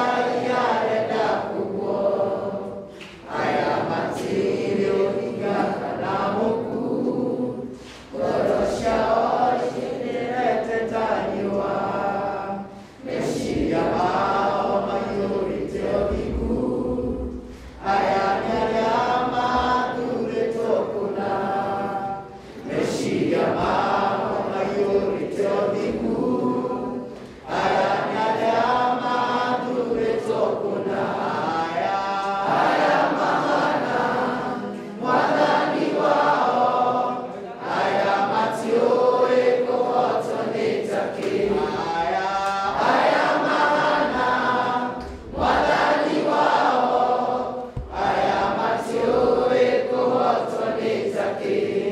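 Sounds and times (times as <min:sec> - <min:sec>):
boys choir singing unaccompanied: 0:00.0 - 0:51.9.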